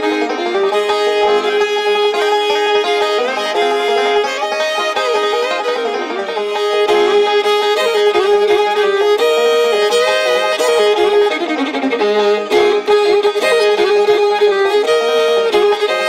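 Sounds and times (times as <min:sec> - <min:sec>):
bluegrass tune with banjo and fiddle: 0:00.0 - 0:16.0.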